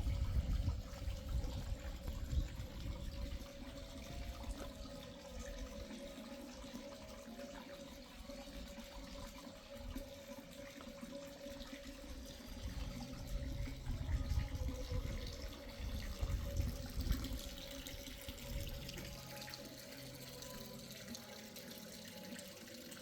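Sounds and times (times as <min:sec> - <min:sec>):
water pouring into a basin: 0:00.0 - 0:23.0.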